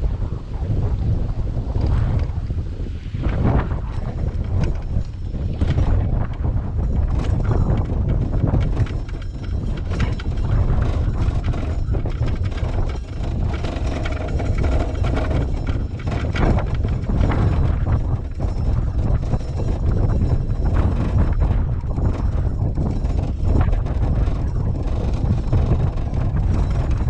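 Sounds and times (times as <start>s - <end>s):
wind buffeting microphone: 0.0s - 27.0s
knocks and clatter: 3.2s - 27.0s.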